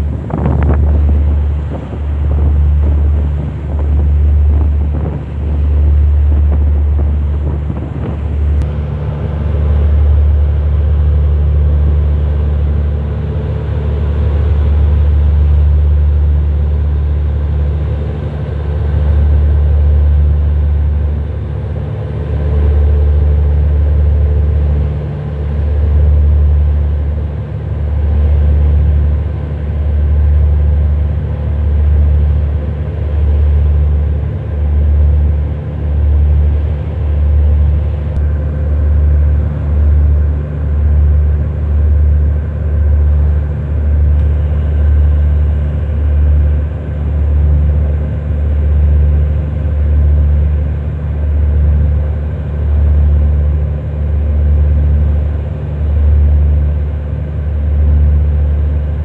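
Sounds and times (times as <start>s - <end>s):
wind buffeting microphone: 0.0s - 53.4s
low mechanical hum: 0.0s - 59.0s.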